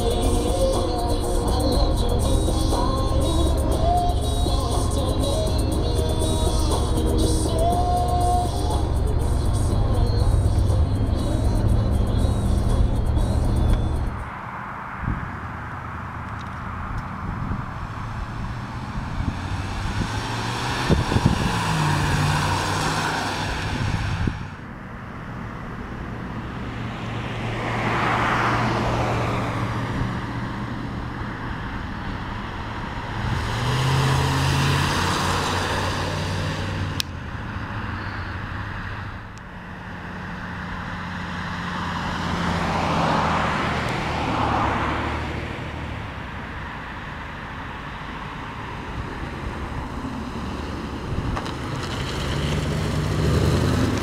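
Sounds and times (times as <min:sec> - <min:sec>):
car engine passing: 0:00.0 - 0:24.6, 0:25.3 - 0:54.0
tyre road noise: 0:00.0 - 0:54.0.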